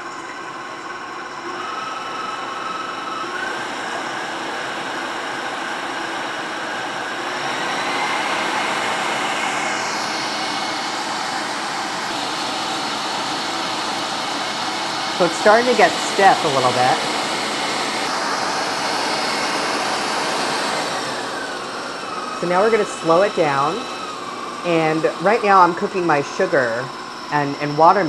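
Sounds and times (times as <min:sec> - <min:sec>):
stand mixer motor whining: 0:00.0 - 0:28.0.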